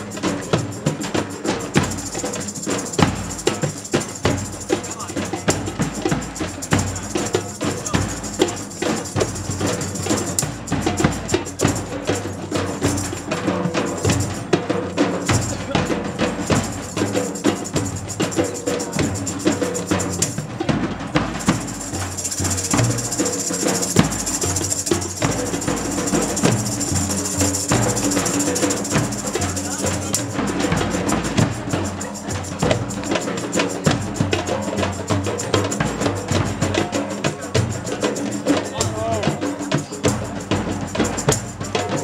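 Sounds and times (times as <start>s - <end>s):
large drum beaten in rhythm: 0.0s - 42.0s.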